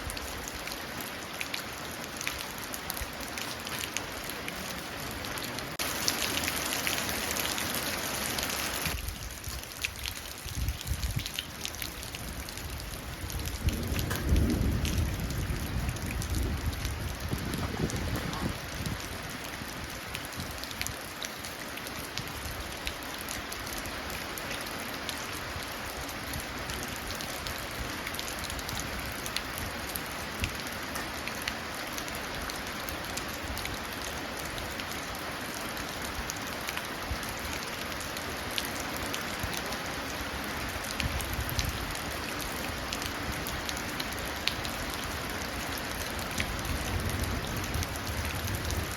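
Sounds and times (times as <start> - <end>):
rain hissing into puddles: 0.0 - 48.9.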